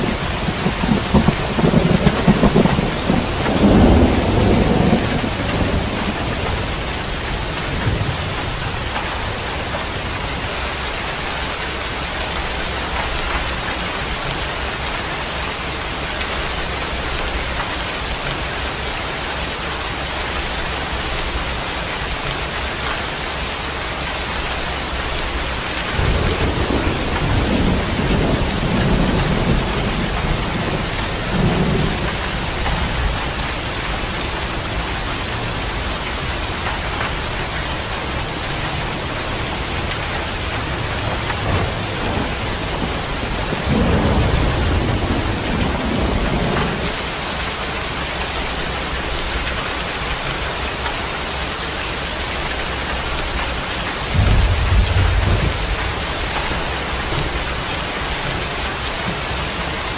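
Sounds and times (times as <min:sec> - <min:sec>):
thunder rumbling: 0:00.0 - 0:19.3, 0:20.0 - 0:50.9, 0:52.3 - 0:59.9
steady rain falling: 0:00.0 - 0:59.9.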